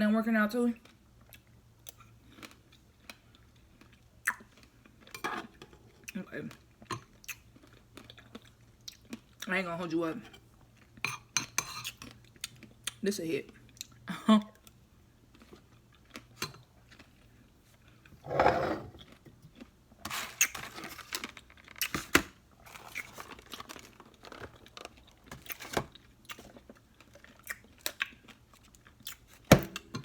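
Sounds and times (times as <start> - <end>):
chewing crunchy food: 0.8 - 9.5, 10.6 - 18.2, 19.0 - 22.0, 22.6 - 29.5.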